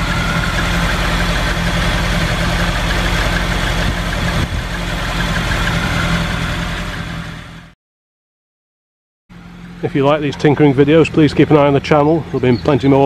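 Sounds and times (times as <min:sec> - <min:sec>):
car engine idling: 0:00.0 - 0:07.8, 0:09.3 - 0:13.0.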